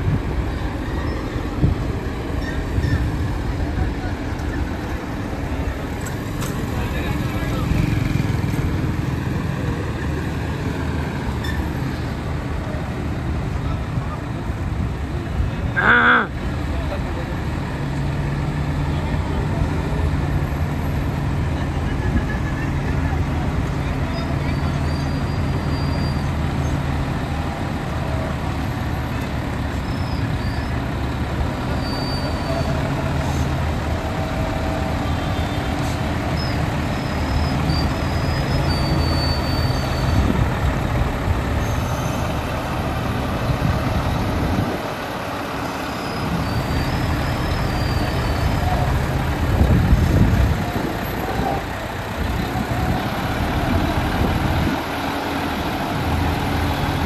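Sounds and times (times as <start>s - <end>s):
truck diesel engine rumbling: 0.0s - 57.0s
tyres rumbling: 0.0s - 57.0s.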